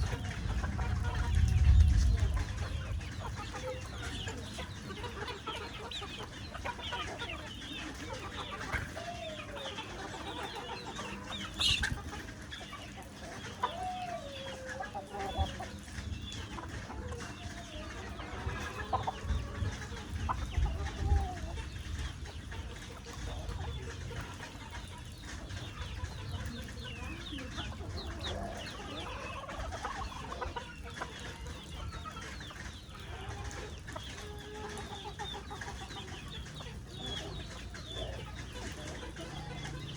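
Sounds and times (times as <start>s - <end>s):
chickens clucking: 0.0s - 39.9s
low drawn-out chicken calls: 0.0s - 39.9s.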